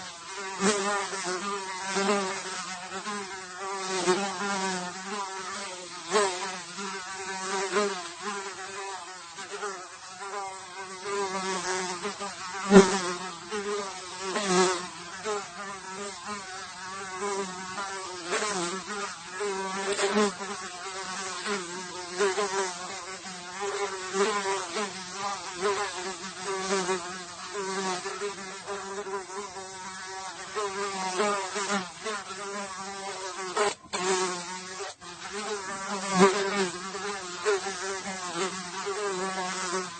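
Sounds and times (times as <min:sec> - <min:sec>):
fly buzzing: 0:00.0 - 0:39.9.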